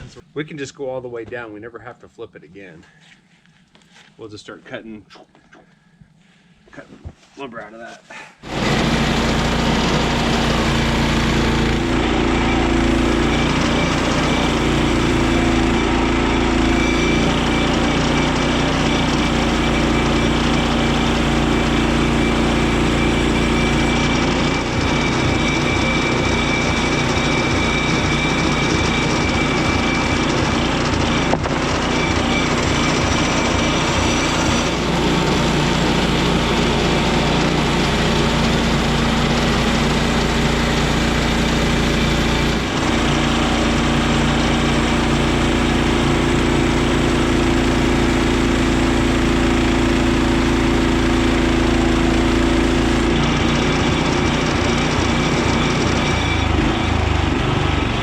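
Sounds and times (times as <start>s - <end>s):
bandsaw blade sawing log: 8.4s - 57.5s
sawmill engine running: 8.4s - 58.0s.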